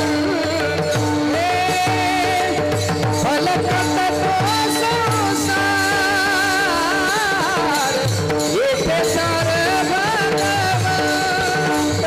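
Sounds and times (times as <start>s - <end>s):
drum beat: 0.0s - 12.0s
hand cymbals: 0.0s - 12.0s
men singing devotional song: 0.0s - 12.0s.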